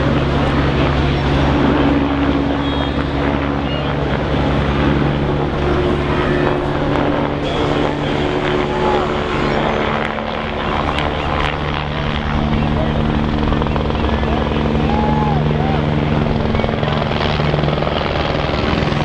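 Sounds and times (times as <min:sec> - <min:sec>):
engine drone: 0:00.0 - 0:19.0
outdoor crowd hubbub: 0:00.0 - 0:19.0.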